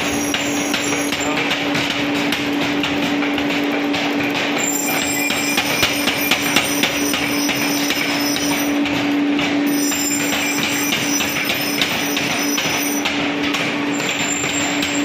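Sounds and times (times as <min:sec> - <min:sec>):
power hammer blows on metal: 0:00.0 - 0:15.0.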